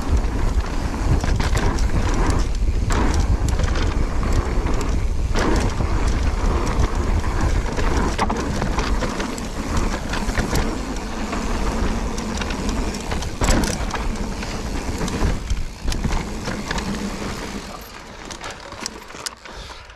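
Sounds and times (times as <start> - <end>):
wind rumbling on microphone: 0.0 - 19.1
bike rattling over bumps: 0.0 - 19.9
bike tyre noise on dirt: 0.0 - 19.9.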